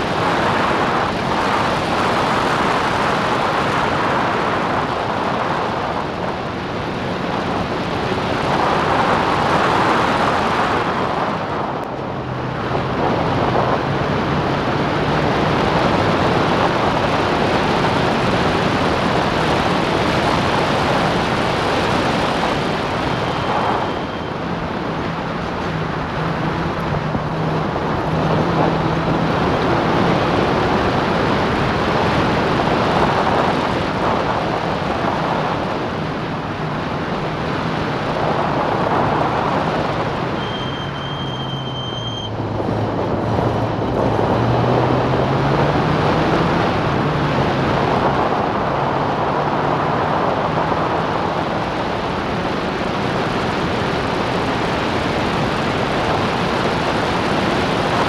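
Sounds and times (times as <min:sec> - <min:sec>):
racing car engine: 0:00.0 - 0:58.0
wind rush on microphone: 0:00.0 - 0:58.0.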